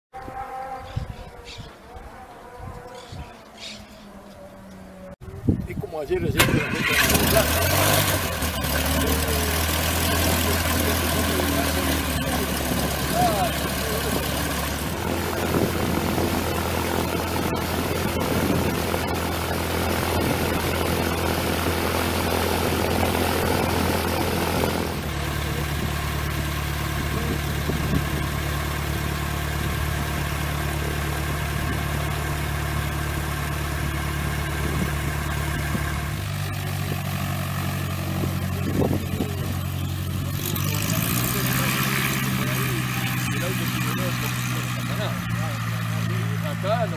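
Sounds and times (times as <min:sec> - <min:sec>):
propeller plane engine droning: 0:03.4 - 0:46.9.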